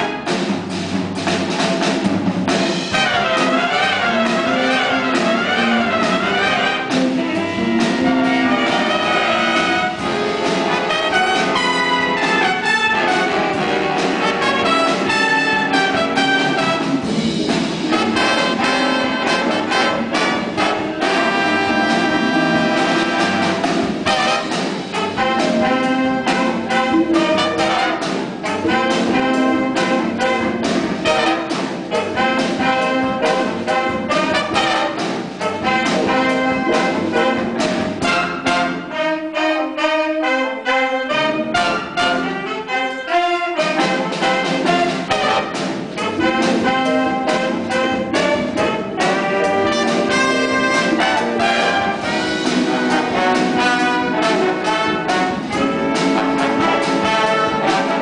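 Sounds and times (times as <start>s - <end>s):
bass and drums beat: 0.0s - 39.4s, 41.1s - 58.0s
horn sections playing jazz: 0.0s - 58.0s.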